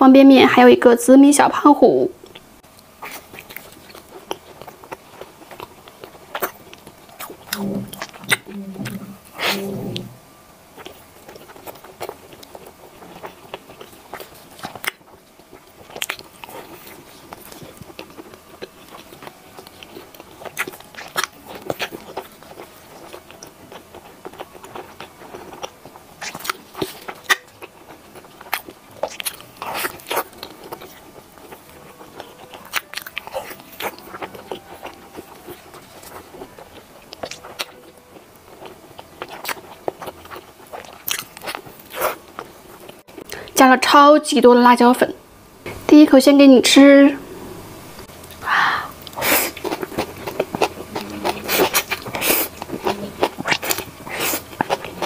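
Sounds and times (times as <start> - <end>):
person chewing: 2.2 - 10.1, 10.8 - 43.6, 47.9 - 55.0.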